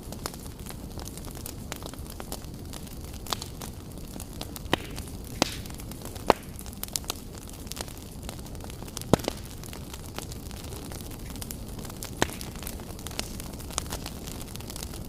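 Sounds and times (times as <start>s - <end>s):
fire crackling and popping: 0.0s - 15.0s
fireplace fire burning: 0.0s - 15.0s.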